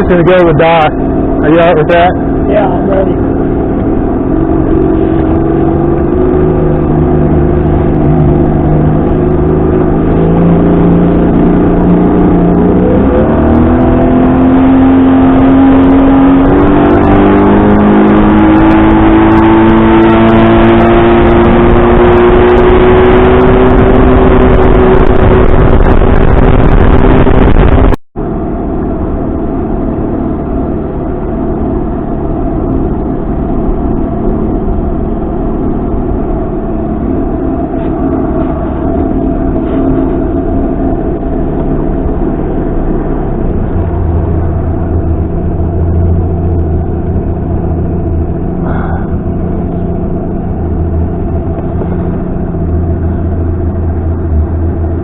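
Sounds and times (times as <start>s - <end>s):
outboard motor running: 0.0s - 12.9s, 21.0s - 55.0s
low steady engine sound: 0.0s - 55.0s.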